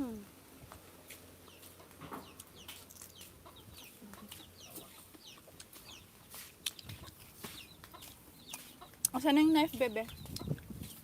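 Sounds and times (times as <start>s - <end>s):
chickens clucking: 0.7s - 11.0s.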